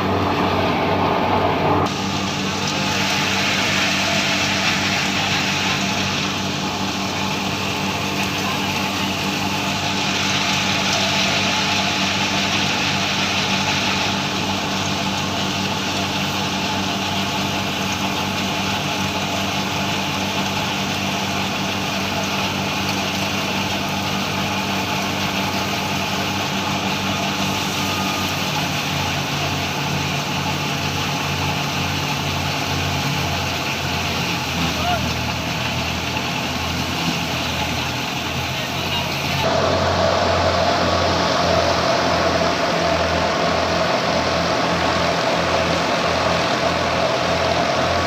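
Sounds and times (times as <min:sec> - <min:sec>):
farm machinery engine running: 0:00.0 - 0:48.0
rushing hiss: 0:01.9 - 0:47.9.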